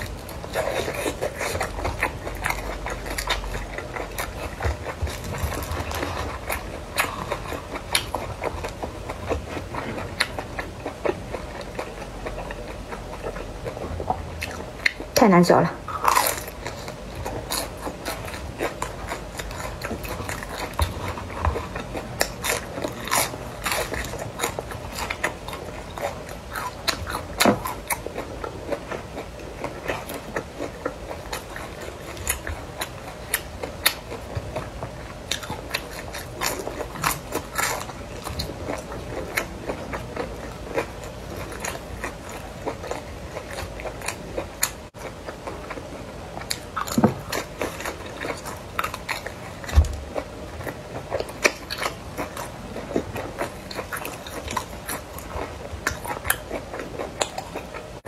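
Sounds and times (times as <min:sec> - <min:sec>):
person chewing crispy food: 0:00.0 - 0:15.2, 0:15.8 - 0:58.0.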